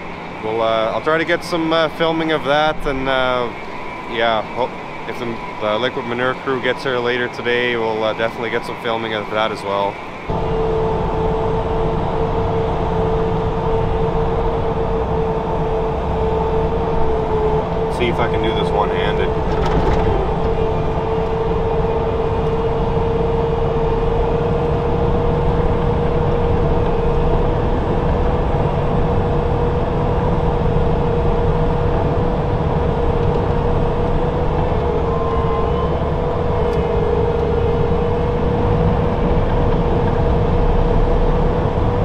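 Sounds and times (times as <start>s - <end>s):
skid steer engine rumble: 0.0s - 42.0s
steady droning tone: 0.0s - 42.0s.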